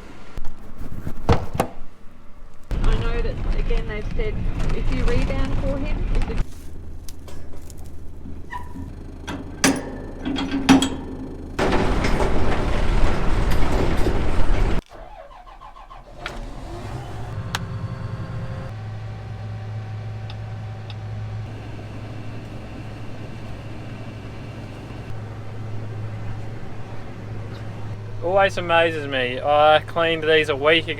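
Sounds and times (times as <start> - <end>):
engine starting and running: 2.7 - 30.9.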